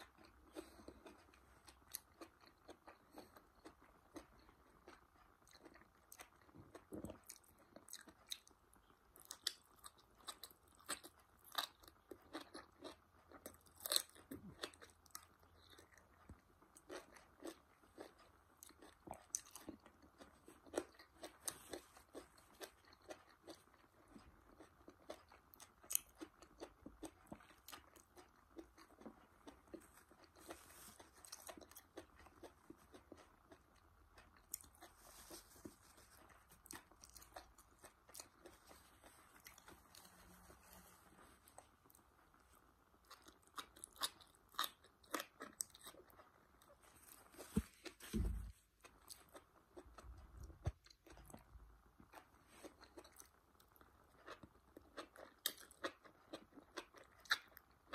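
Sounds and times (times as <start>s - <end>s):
person crunching and chewing: 0.0s - 57.9s.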